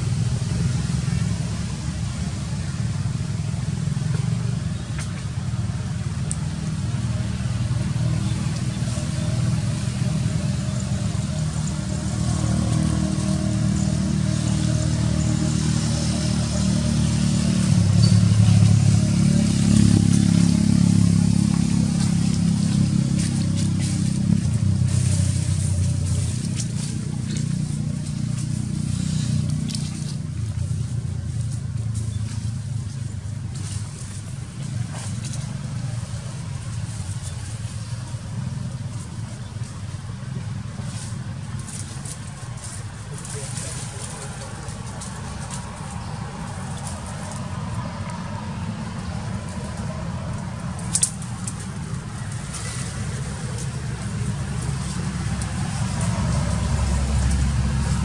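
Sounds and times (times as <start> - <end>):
vehicle engine rumble: 0.0 - 58.0.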